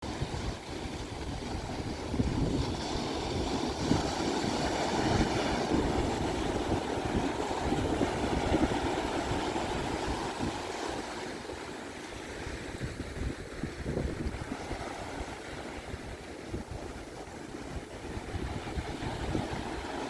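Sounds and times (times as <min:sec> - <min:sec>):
ocean surf washing onto beach: 0:00.0 - 0:20.0
wind buffeting microphone: 0:00.0 - 0:20.0.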